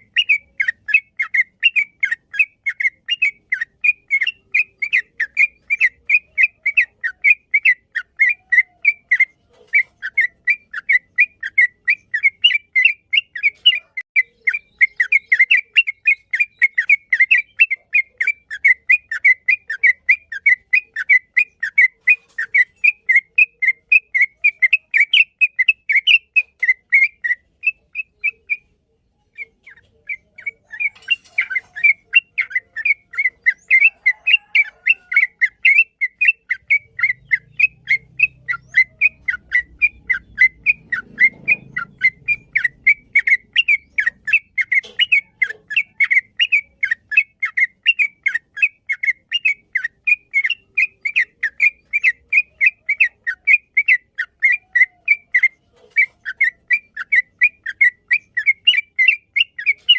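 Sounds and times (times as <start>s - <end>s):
bird singing rapid chatter: 0.0s - 59.9s.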